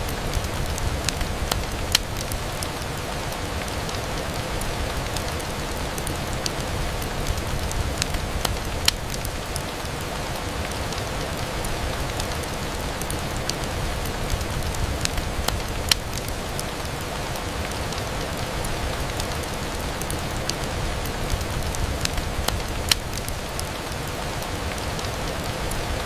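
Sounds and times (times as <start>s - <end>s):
rain pattering on window: 0.0s - 26.0s
sharp ticks and pops: 0.1s - 26.0s.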